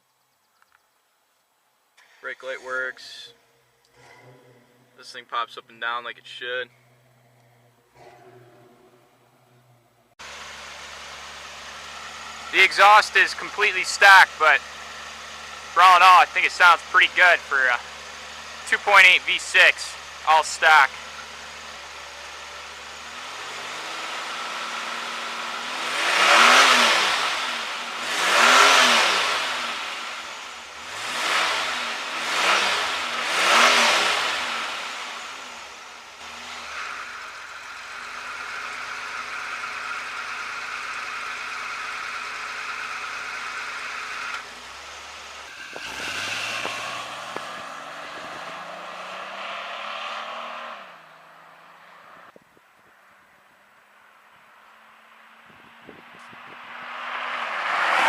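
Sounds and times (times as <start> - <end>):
car engine idling and revving: 2.0 - 58.0.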